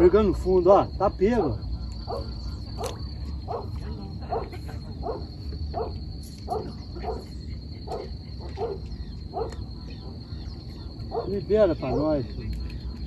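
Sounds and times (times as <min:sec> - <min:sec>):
animal calling: 0:01.3 - 0:13.0.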